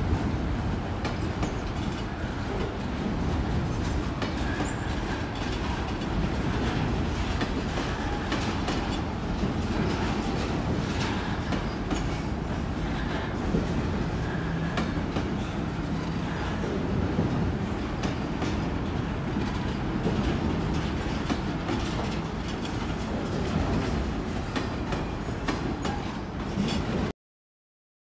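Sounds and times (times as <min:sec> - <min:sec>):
freight train wheels rumbling on rail: 0:00.0 - 0:27.1
wheels clicking over rail joints: 0:01.0 - 0:27.1.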